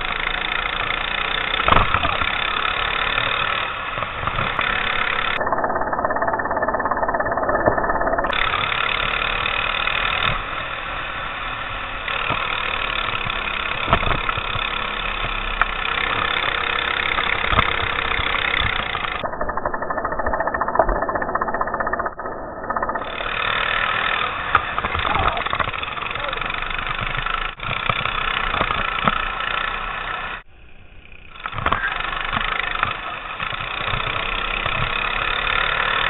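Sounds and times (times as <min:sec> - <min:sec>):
go-kart engine racing: 0:00.0 - 0:36.0
other karts: 0:00.0 - 0:36.0.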